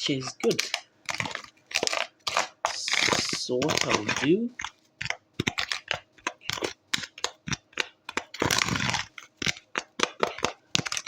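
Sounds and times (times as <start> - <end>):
utensils and containers clicking: 0.0 - 11.0.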